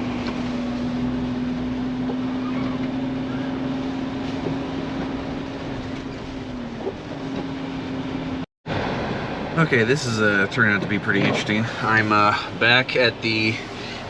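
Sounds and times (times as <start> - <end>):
vehicle engine drone inside cabin: 0.0 - 14.0.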